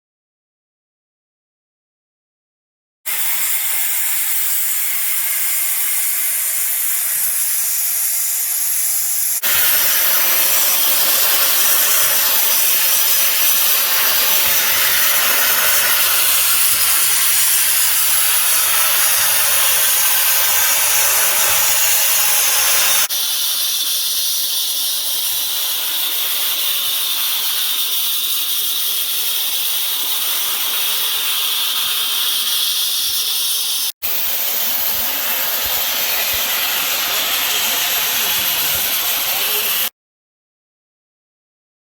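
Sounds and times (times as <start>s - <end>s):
compressed air hissing: 3.1s - 39.9s.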